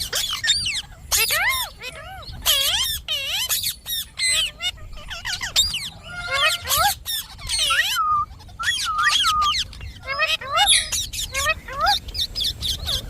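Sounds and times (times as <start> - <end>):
parakeet calling: 0.0 - 13.0.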